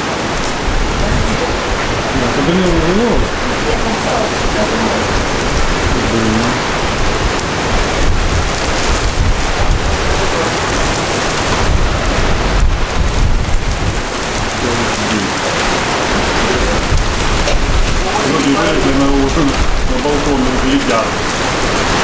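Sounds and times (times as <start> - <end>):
heavy rain on pavement and cars: 0.0 - 22.0
wind rumbling over microphone: 0.0 - 22.0.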